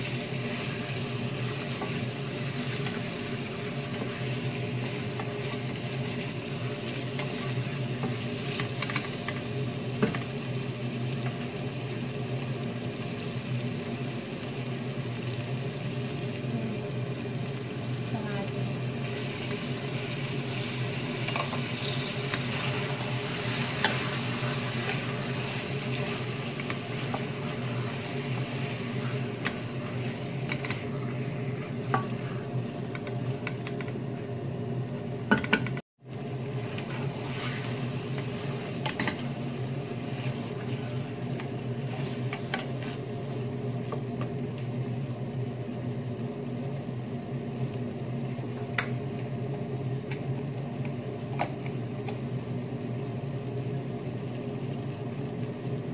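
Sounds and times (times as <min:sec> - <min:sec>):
meat and tomatoes sizzling in a pot: 0:00.0 - 0:55.9.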